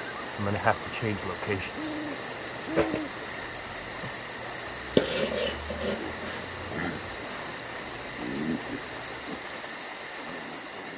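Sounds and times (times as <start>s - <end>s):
crickets trilling: 0.0s - 10.9s.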